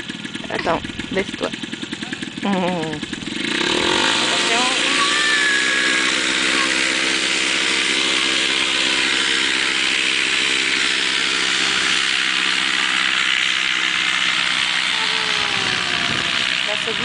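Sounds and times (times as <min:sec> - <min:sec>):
paramotor engine running: 0:00.0 - 0:17.0
propeller hiss: 0:00.0 - 0:17.0.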